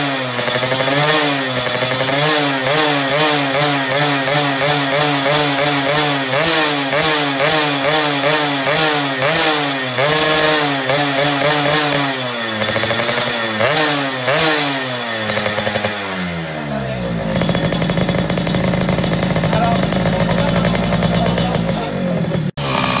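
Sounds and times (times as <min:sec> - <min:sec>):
motorcycle engine idling: 0:00.0 - 0:23.0
motorcycle engine revving: 0:00.0 - 0:23.0.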